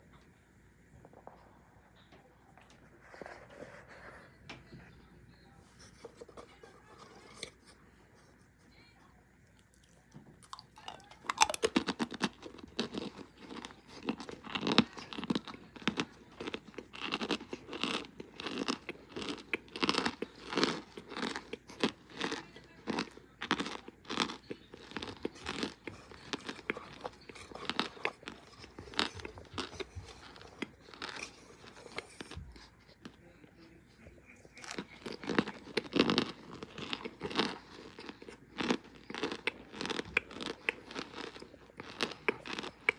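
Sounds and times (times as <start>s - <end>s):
crunching and chewing: 5.7s - 8.5s, 9.4s - 42.9s.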